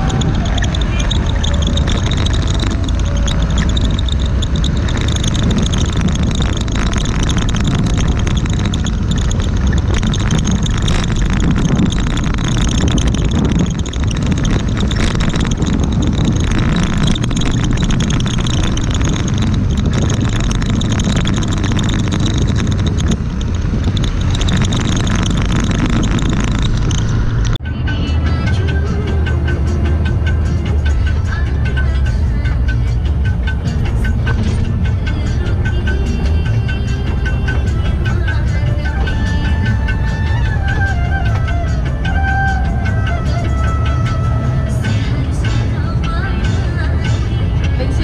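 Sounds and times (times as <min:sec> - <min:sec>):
diesel truck engine running low: 0:00.0 - 0:48.0
road and wind noise: 0:00.0 - 0:48.0.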